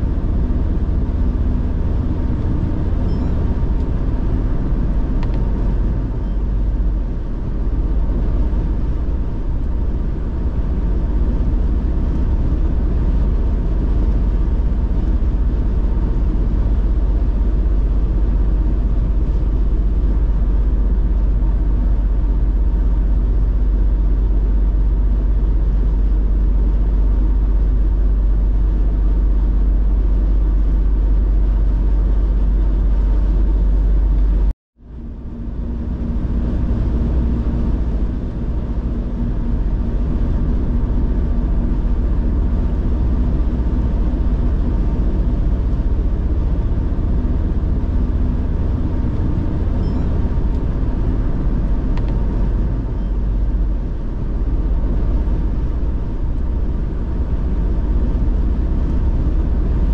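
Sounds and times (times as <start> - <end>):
car road noise at speed: 0.0 - 59.9.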